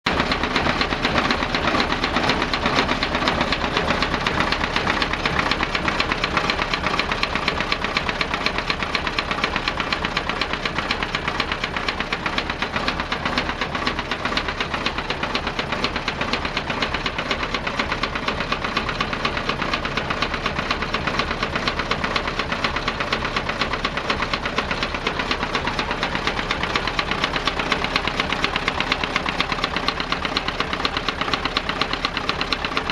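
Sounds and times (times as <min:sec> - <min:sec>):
truck diesel engine knocking: 0:00.1 - 0:32.9.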